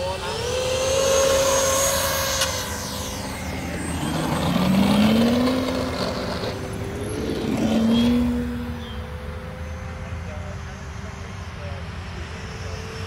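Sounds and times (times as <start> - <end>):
model jet motor whining: 0.0 - 13.0
model propeller plane motor: 0.0 - 13.0.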